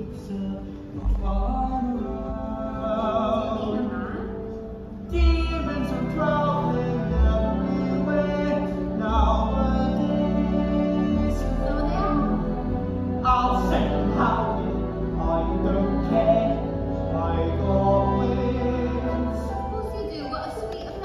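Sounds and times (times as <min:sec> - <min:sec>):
person singing with vibrato: 0:00.0 - 0:19.7
deep bass notes: 0:00.0 - 0:20.1
pit orchestra: 0:00.0 - 0:21.0.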